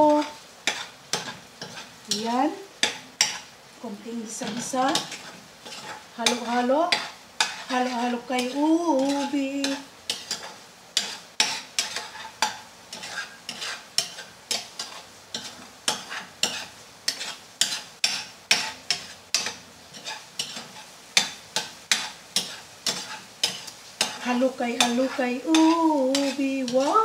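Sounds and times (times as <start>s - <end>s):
metal spatula scraping pan: 0.0s - 3.6s, 4.2s - 27.0s
food sizzling: 0.0s - 27.0s.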